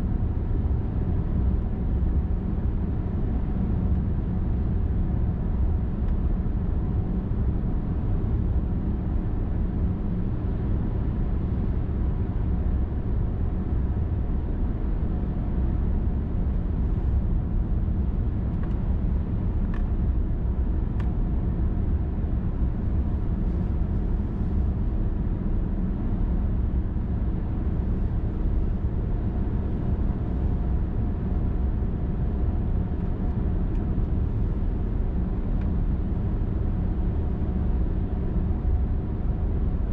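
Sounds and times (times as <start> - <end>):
car tyres and engine rumbling: 0.0 - 39.9
faint steady hum: 0.0 - 39.9.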